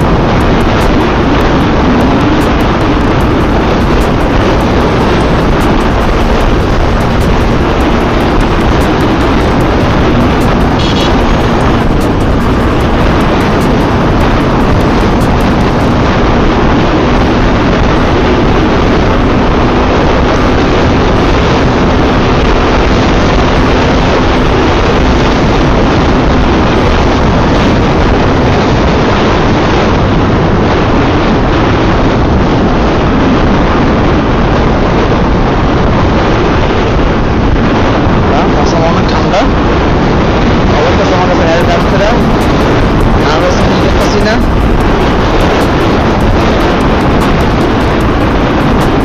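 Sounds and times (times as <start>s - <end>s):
motorcycle engine humming: 0.0s - 32.2s, 39.6s - 49.0s
wind rushing over microphone: 0.0s - 49.0s.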